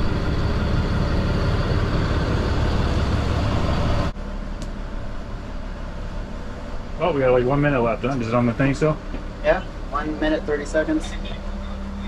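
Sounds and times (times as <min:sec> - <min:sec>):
boat engines rumbling: 0:00.0 - 0:12.0
engine hum inside cabin: 0:00.0 - 0:12.0.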